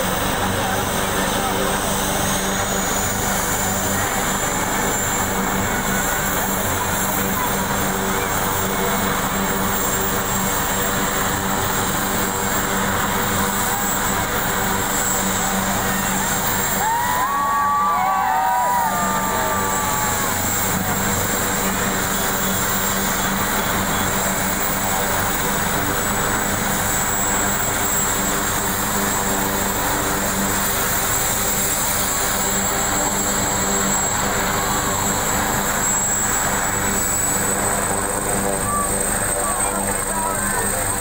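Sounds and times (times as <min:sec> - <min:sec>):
helicopter engine and rotor: 0:00.0 - 0:41.0
high turbine whine: 0:00.0 - 0:41.0.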